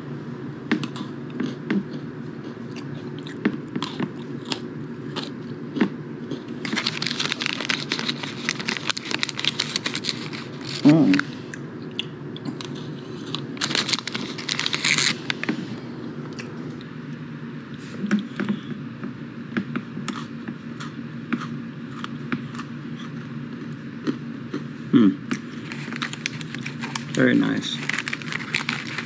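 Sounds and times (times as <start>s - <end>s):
chewing crunchy snack: 0.7s - 11.3s, 11.9s - 15.6s, 19.6s - 29.0s.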